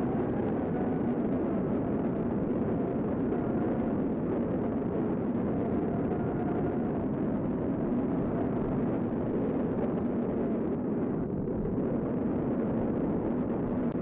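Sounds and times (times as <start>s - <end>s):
tornado wind rushing: 0.0s - 14.0s.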